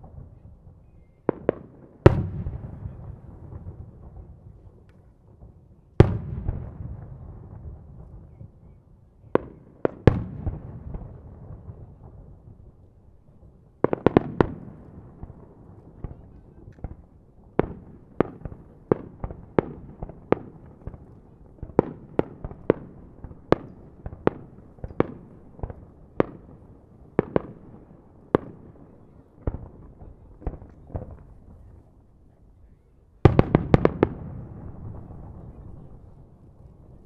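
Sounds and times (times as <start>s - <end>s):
fireworks bangs: 0.0s - 8.6s, 9.3s - 12.6s, 13.8s - 31.9s, 33.2s - 37.0s.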